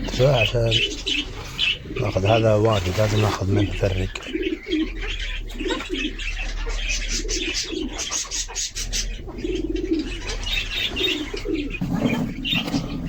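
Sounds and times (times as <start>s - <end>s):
high bird chirps: 0.0s - 13.0s
pigeons cooing: 0.0s - 13.0s.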